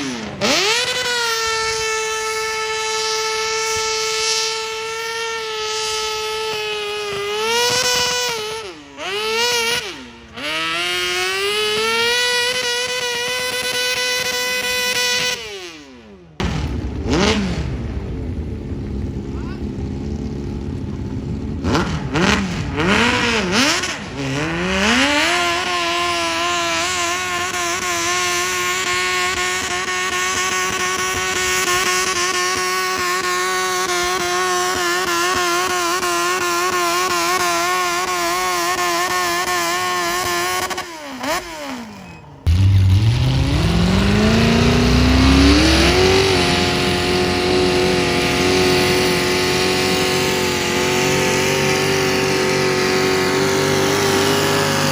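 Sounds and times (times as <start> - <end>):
engine climbing in pitch: 0.0 - 54.9
tractor engine at full throttle: 0.0 - 54.9.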